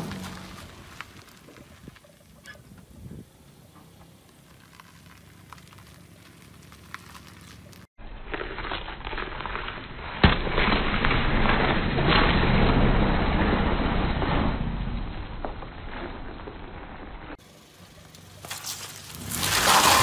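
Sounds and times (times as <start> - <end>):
wet crunching under tyre: 0.0 - 2.6, 3.9 - 20.0.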